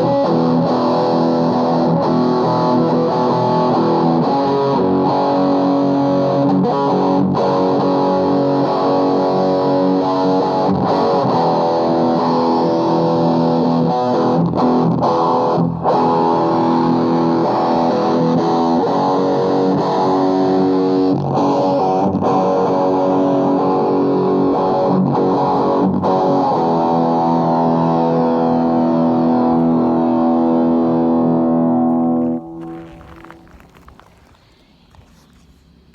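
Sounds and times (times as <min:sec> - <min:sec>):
distorted electric guitar: 0:00.0 - 0:35.2.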